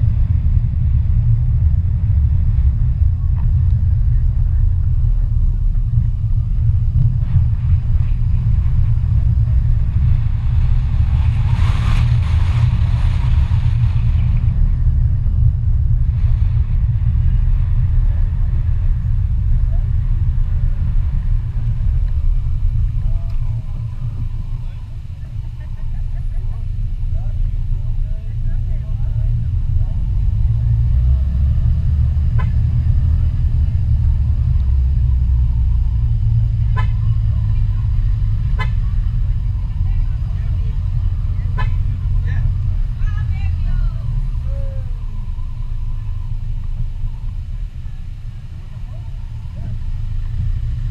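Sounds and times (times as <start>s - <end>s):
car driving on road: 0.0s - 50.9s.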